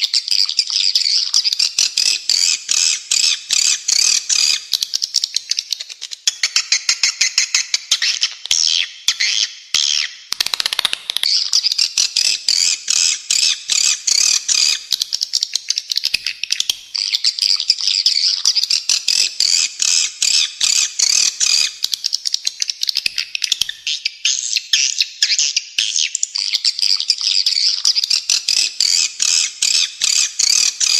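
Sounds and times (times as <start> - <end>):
dense rapid bird chirping: 0.0 - 30.9.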